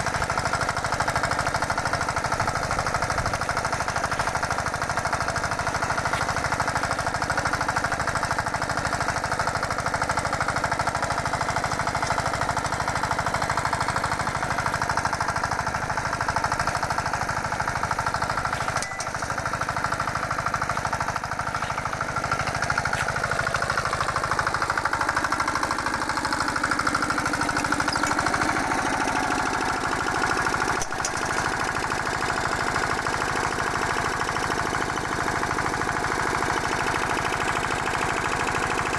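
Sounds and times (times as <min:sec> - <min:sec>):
rotavator engine running: 0:00.0 - 0:38.9.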